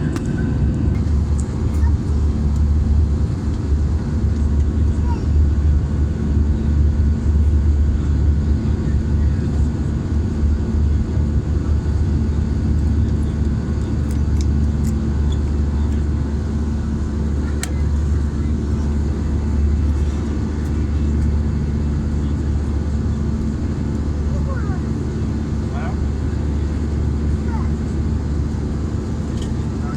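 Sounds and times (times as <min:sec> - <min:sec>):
airplane engine droning overhead: 0:00.0 - 0:29.9.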